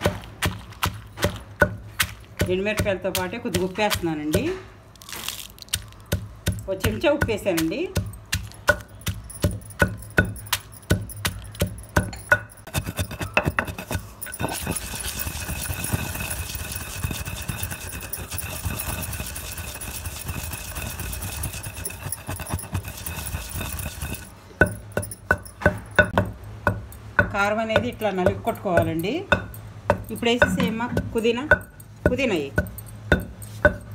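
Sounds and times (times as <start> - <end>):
pestle pounding in stone mortar: 0.0 - 4.6, 5.3 - 33.9.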